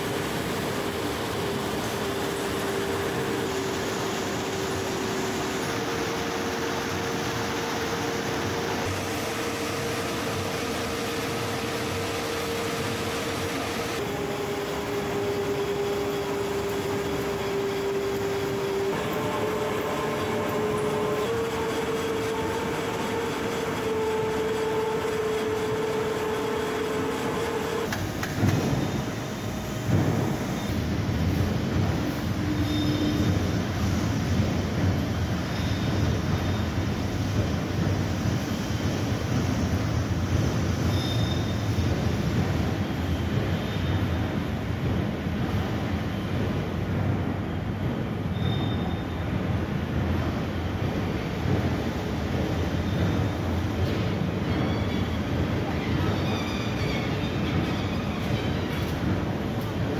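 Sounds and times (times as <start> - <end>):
machine noise with motor whine: 0.0 - 59.9.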